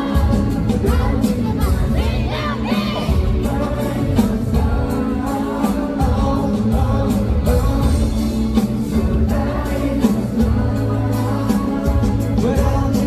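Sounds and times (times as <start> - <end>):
live concert music with heavy bass: 0.0 - 13.0
person singing: 0.0 - 13.0.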